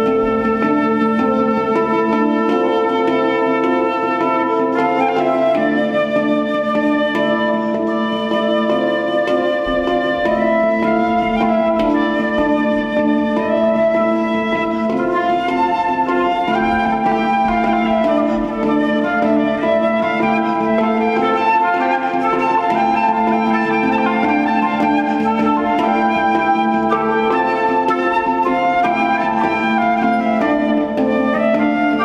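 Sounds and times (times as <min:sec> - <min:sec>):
flute playing slow melody: 0:00.0 - 0:32.0
handpan notes ringing: 0:00.0 - 0:32.0.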